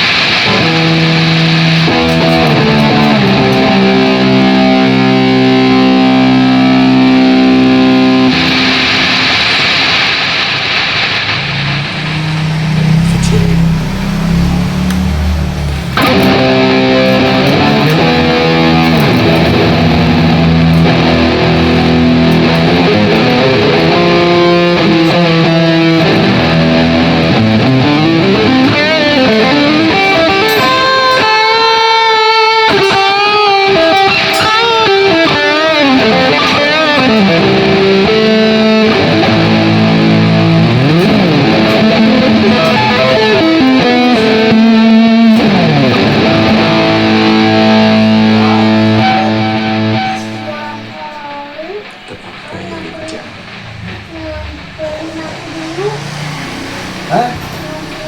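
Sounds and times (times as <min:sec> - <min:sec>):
electric guitar with vibrato: 0:00.0 - 0:58.0.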